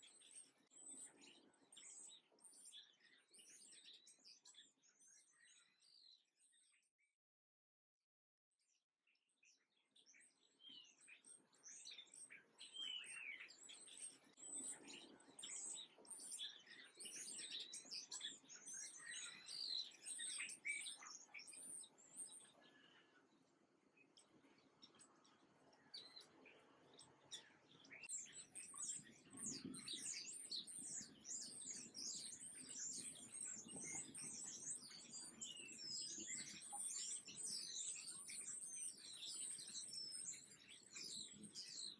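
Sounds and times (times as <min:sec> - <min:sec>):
songbirds chirping and twittering: 0:00.0 - 0:07.2, 0:08.6 - 0:41.9.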